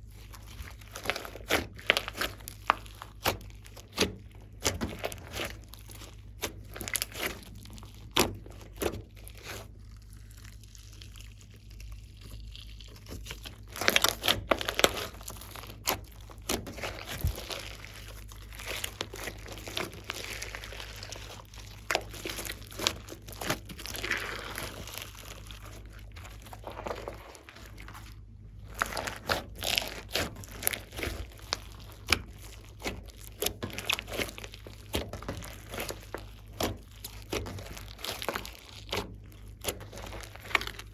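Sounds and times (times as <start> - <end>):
slime squishing with sticky pops: 0.0 - 40.9.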